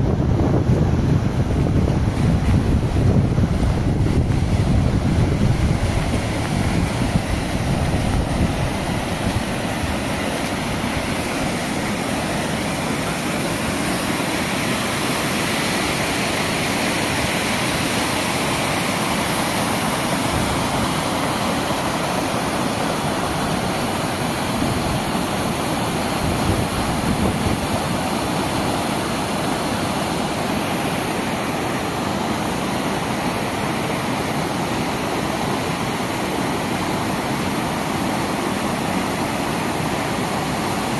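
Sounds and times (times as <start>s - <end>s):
flood water rushing over stones: 0.0s - 40.9s.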